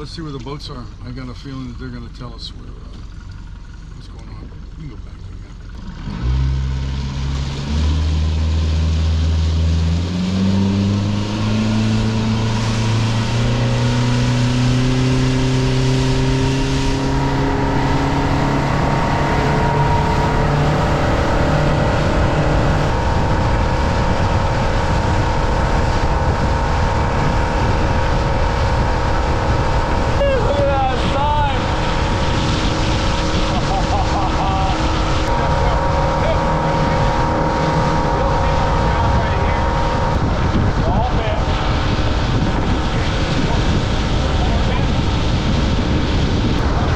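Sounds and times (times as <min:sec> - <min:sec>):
outboard motor throttling up: 0:00.0 - 0:46.9.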